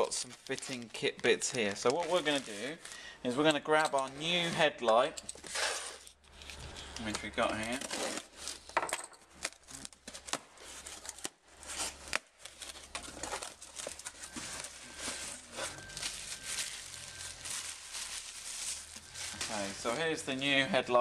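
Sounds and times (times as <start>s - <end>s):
plastic crinkling: 0.0s - 4.4s, 5.9s - 20.7s.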